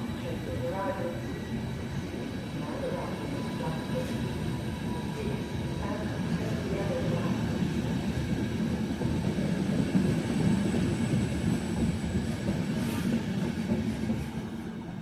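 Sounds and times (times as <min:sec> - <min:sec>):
passenger train rumbling past: 0:00.0 - 0:15.0.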